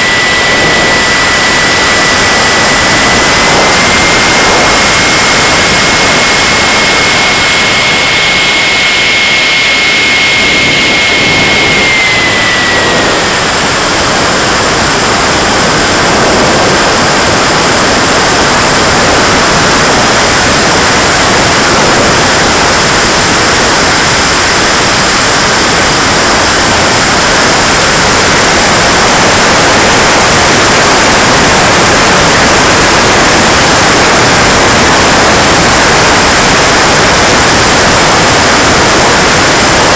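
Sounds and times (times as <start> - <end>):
jet turbine whining and rushing: 0.0 - 39.9.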